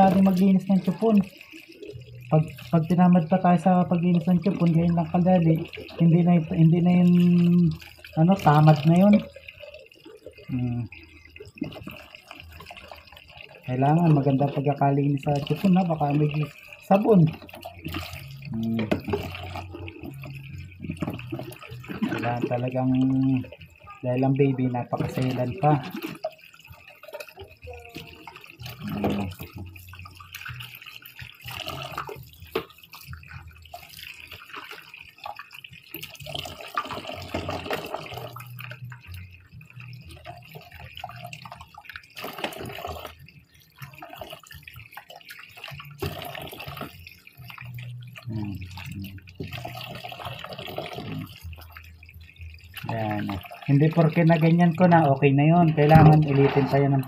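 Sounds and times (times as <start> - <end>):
tap water running into sink: 0.0 - 57.0
water splashes: 0.0 - 57.0.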